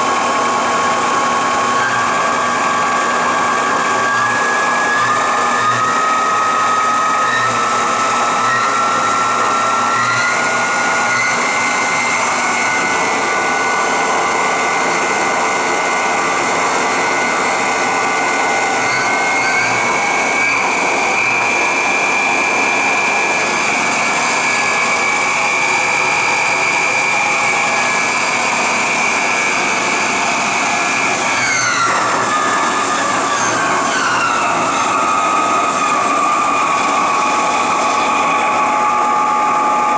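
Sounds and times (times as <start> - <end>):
lathe spindle drive whine: 0.0 - 39.9.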